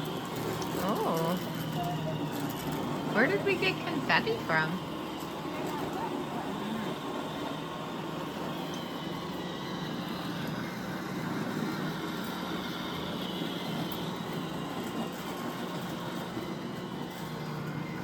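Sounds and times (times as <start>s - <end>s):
robot vacuum motor hum: 0.0s - 18.0s.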